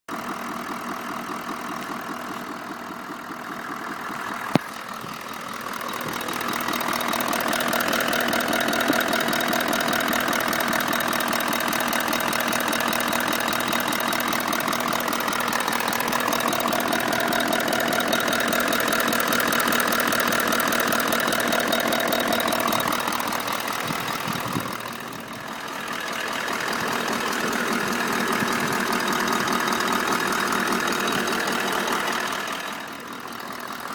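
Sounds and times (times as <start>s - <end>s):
engine idling: 0.1s - 33.9s
rhythmic engine knock: 3.8s - 33.9s.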